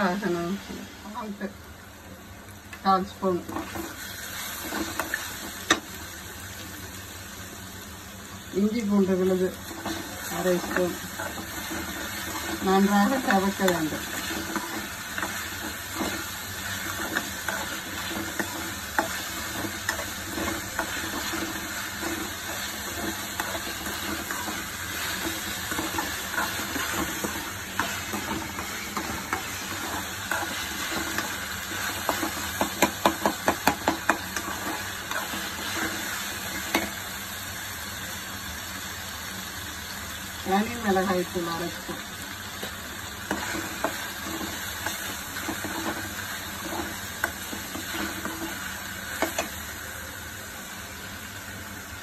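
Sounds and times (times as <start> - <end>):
onions sizzling in a pan: 0.0 - 52.0.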